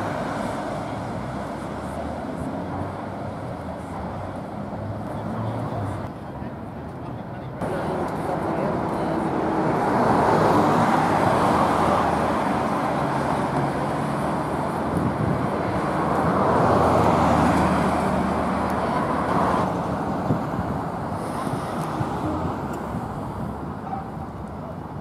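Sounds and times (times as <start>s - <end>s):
cars driving past: 0.0s - 6.1s, 7.6s - 25.0s.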